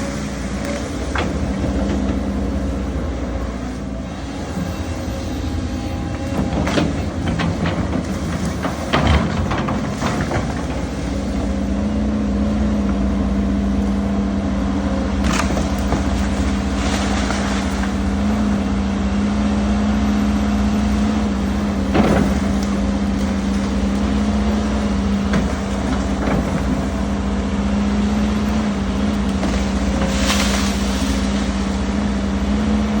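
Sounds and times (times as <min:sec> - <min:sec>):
diesel machinery running: 0:00.0 - 0:33.0.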